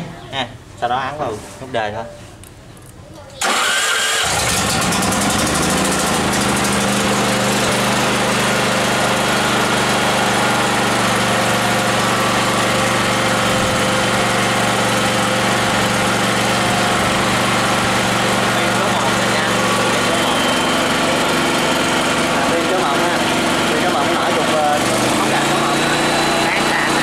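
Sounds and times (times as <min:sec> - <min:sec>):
generator engine running: 0:03.4 - 0:27.0.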